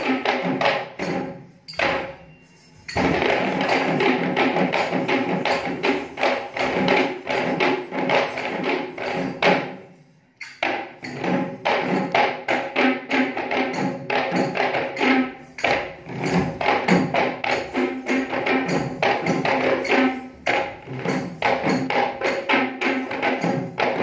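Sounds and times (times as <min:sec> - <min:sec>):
hand drums beaten fast: 0:00.0 - 0:02.1, 0:02.9 - 0:09.8, 0:10.6 - 0:24.0.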